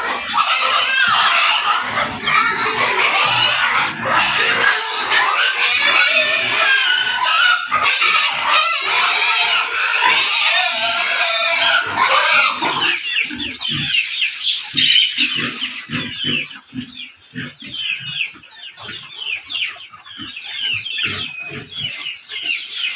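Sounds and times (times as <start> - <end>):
pigs grunting: 0.0 - 14.0, 14.8 - 22.2
pigs squealing: 0.0 - 22.9.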